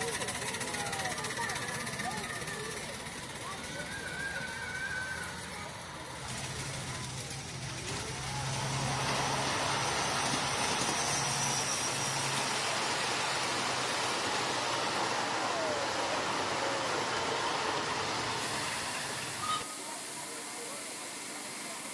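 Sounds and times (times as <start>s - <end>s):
train wheels on rails: 0.0s - 21.9s.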